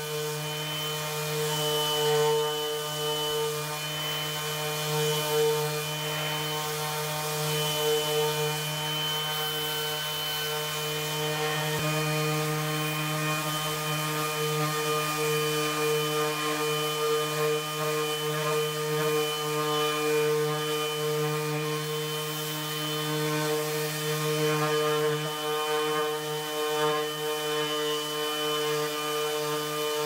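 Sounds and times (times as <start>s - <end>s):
orbital sander sanding wood: 0.0s - 30.0s.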